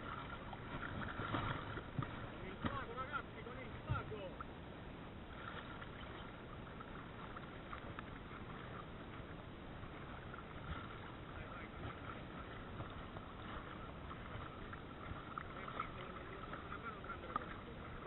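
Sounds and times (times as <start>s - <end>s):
shallow water sloshing and lapping: 0.0s - 18.0s.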